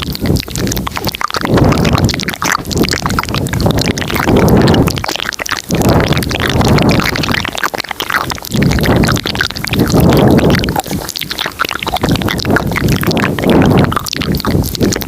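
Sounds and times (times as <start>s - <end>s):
wet mouth clicks and smacks: 0.0s - 15.0s.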